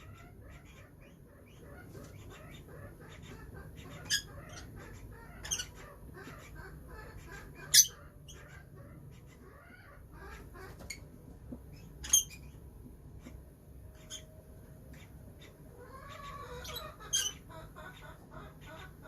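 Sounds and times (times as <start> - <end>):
lovebirds chirping: 0.0 - 19.0.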